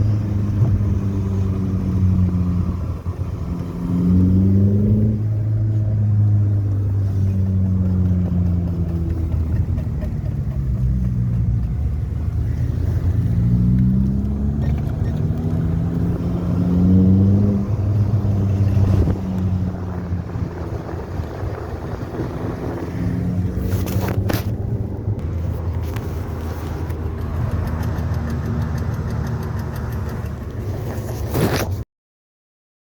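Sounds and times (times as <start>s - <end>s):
car engine revving: 0.0s - 31.4s.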